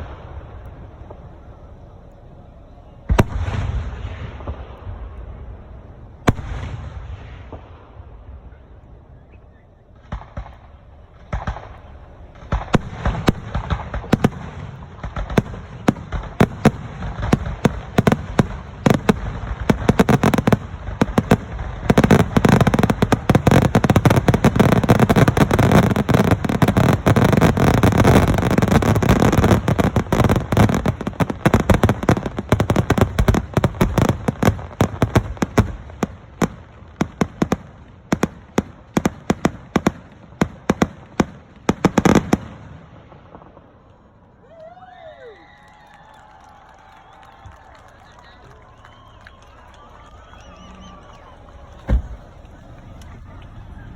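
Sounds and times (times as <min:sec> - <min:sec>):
fireworks bursting: 0:00.0 - 0:44.5, 0:45.7 - 0:53.9.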